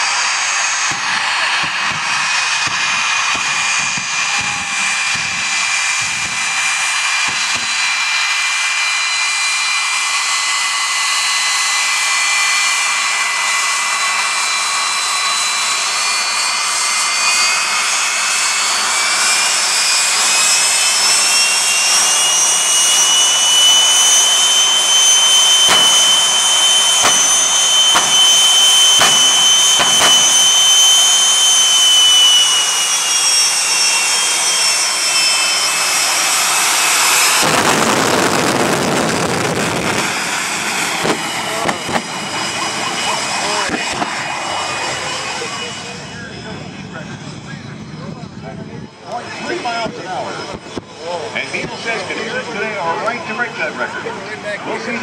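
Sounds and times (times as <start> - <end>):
jet engine whine: 0.0 - 55.0.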